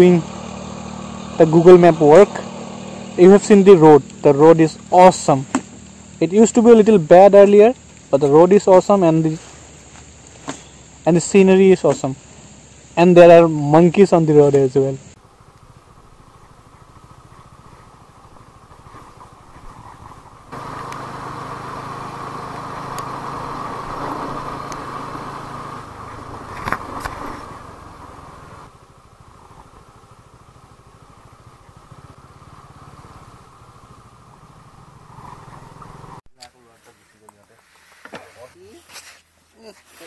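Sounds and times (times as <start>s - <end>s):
motorcycle engine running: 0.0s - 36.2s
road and wind noise: 0.0s - 36.2s.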